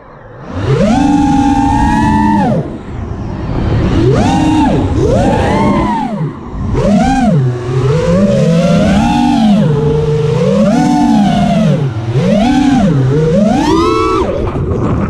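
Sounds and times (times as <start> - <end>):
quadcopter motors whining: 0.0 - 14.7.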